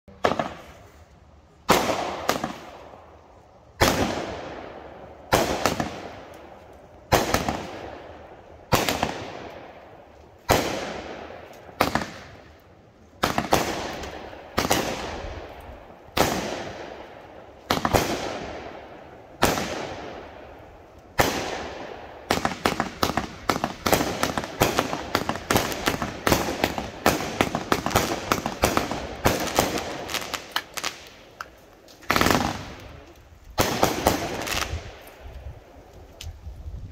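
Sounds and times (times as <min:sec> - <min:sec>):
firework bangs with crackle: 0:00.2 - 0:01.0, 0:01.6 - 0:03.0, 0:03.8 - 0:12.5, 0:13.2 - 0:35.2.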